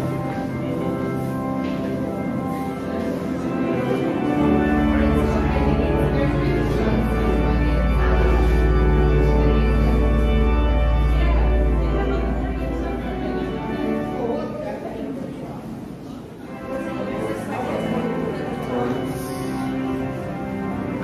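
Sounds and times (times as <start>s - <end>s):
pipe organ chords: 0.0s - 14.7s, 16.4s - 21.0s.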